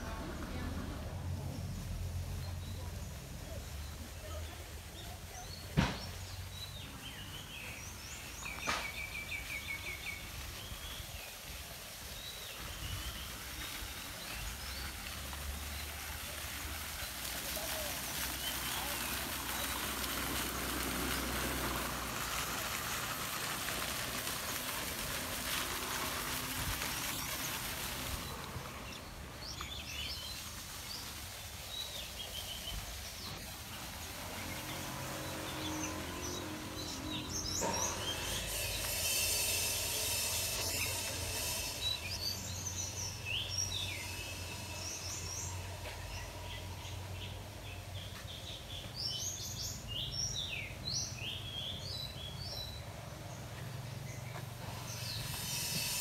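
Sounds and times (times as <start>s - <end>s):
fountain jets splashing into pond: 0.0s - 56.0s
birds chirping: 1.4s - 56.0s.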